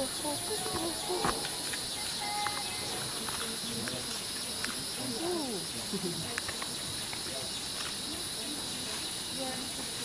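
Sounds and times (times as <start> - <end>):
insects buzzing chorus: 0.0 - 10.0.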